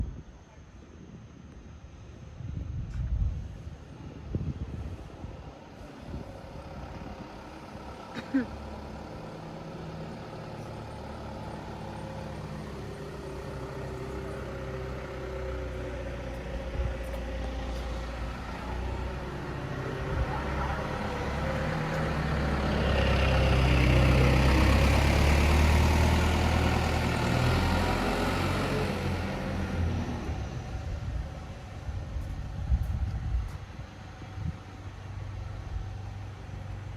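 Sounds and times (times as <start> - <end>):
truck engine running: 5.0 - 36.9.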